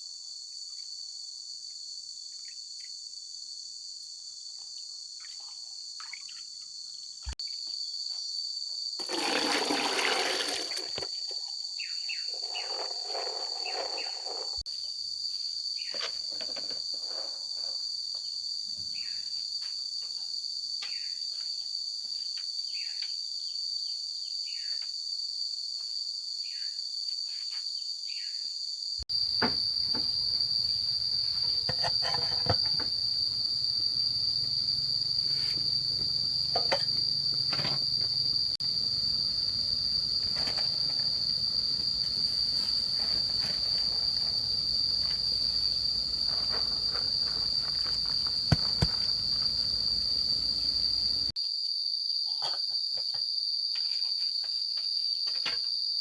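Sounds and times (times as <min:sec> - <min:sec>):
insects trilling: 0:00.2 - 0:56.0.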